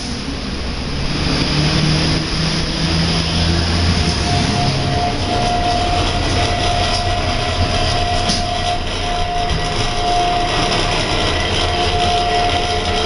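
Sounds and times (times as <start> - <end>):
monorail car rumbling: 0.0 - 13.0
thin whine: 2.1 - 13.0.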